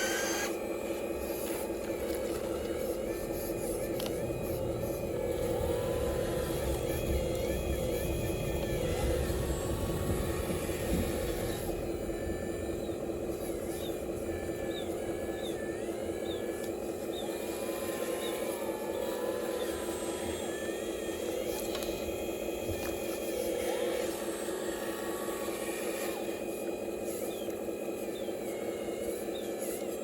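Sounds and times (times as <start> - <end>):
small electric motors whining: 0.0 - 30.0.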